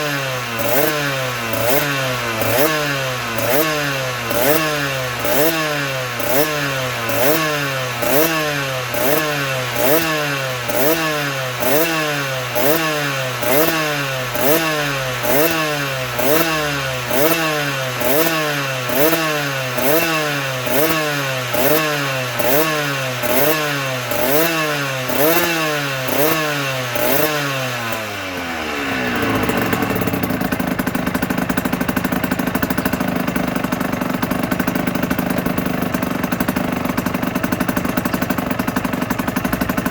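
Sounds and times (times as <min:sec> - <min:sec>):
two-stroke engine revving: 0:00.0 - 0:39.9.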